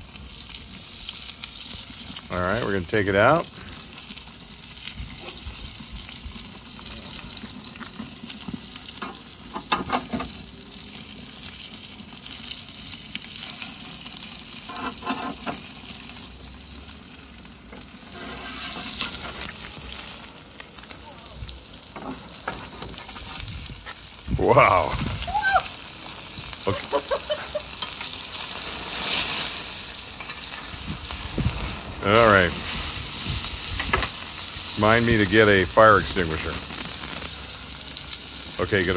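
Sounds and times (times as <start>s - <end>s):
steak fat sizzling and spitting: 0.0s - 38.9s.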